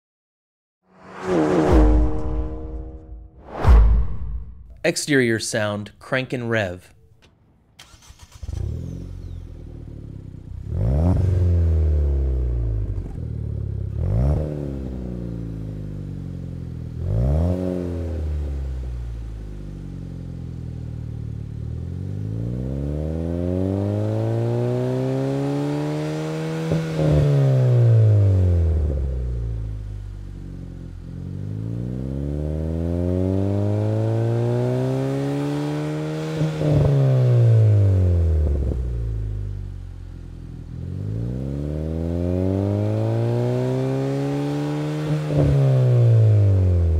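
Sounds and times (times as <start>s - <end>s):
car engine starting and revving: 0.9s - 4.8s, 7.1s - 46.9s.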